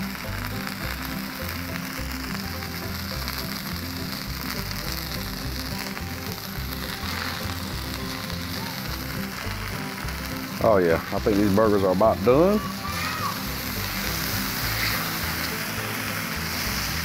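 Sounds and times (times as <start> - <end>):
background music with bass line: 0.0 - 17.0
food sizzling on a griddle: 0.0 - 17.0.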